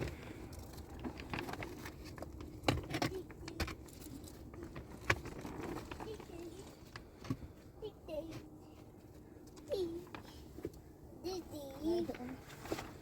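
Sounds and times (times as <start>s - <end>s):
light clicks and knocks of handling: 0.0s - 10.9s.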